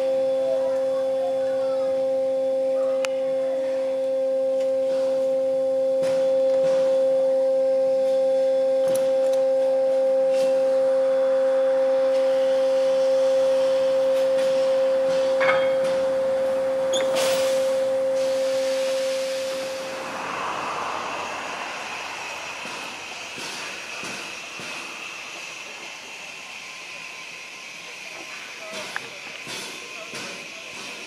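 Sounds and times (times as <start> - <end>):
steady high tone: 0.0 - 28.7.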